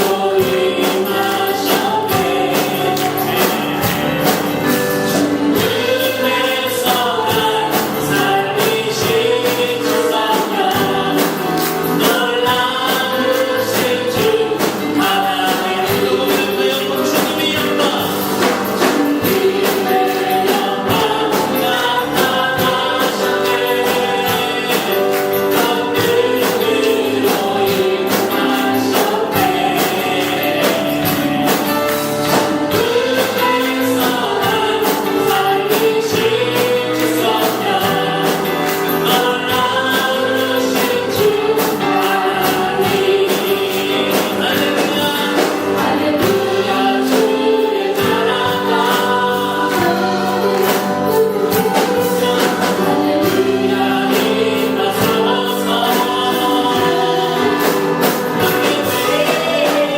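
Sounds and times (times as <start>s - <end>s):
group singing gospel song: 0.0s - 59.9s
instruments with percussive beat: 0.0s - 59.9s.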